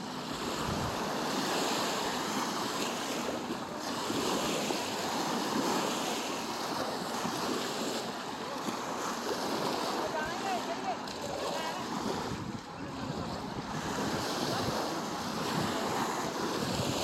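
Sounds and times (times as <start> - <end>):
waves washing on sandy shore: 0.0 - 17.0.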